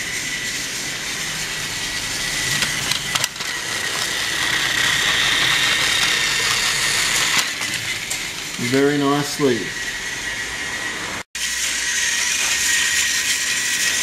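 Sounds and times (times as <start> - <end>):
toy train motor whining: 0.0 - 14.0.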